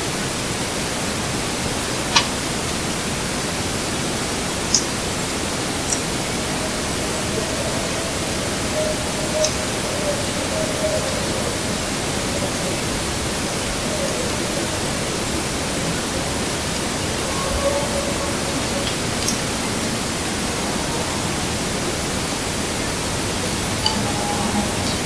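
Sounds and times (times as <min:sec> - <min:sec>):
microphone hiss: 0:00.0 - 0:25.0.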